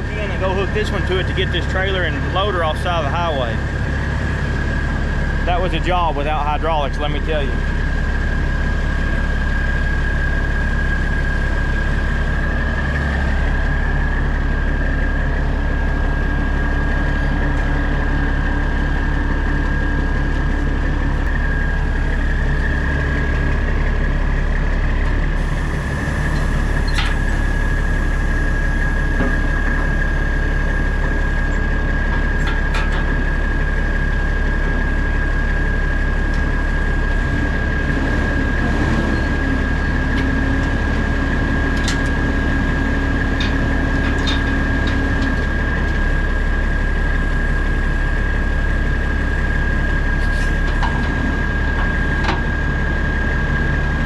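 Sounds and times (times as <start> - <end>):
constant high whine: 0.0 - 54.0
diesel truck engine idling: 0.0 - 54.0.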